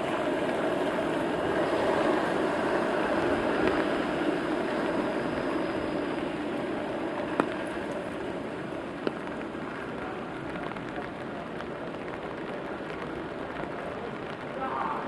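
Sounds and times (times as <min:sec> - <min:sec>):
steady rainfall hiss: 0:00.0 - 0:15.0.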